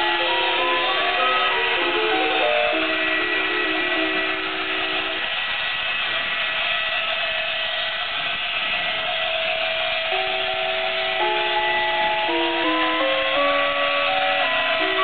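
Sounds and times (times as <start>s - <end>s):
tinny toy melody: 0.0s - 15.0s
whirring hiss with held tone: 0.0s - 15.0s.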